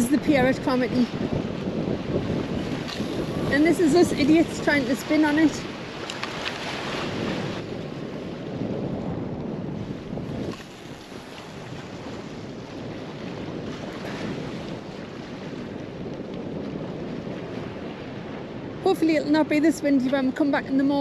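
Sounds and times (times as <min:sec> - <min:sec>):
choppy sea water: 0:00.0 - 0:21.0
wind buffeting microphone: 0:00.0 - 0:21.0.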